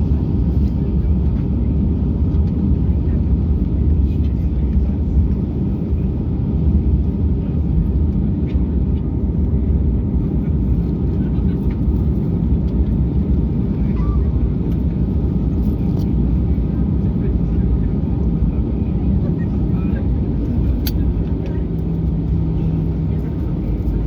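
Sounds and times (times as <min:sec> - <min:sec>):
airliner engine rumble in cabin: 0:00.0 - 0:24.0.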